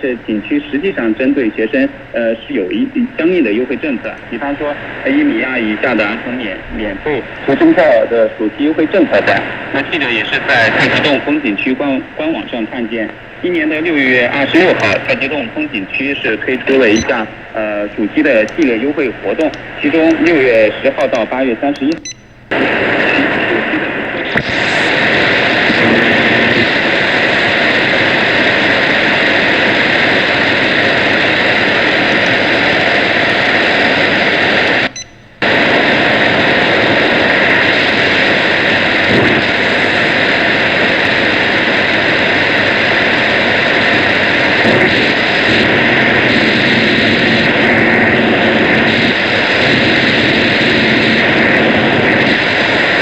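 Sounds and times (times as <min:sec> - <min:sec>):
shortwave radio static: 0:00.0 - 0:53.0.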